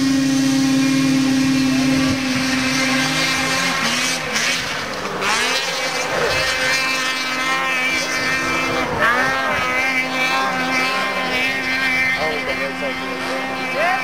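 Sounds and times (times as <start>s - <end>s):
snowmobile engine revving: 0.0s - 14.0s
snowmobile engines droning: 0.0s - 14.0s.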